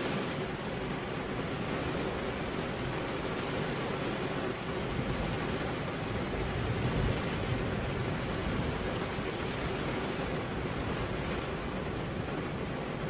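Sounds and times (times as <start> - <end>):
rain on a car window: 0.0 - 13.0.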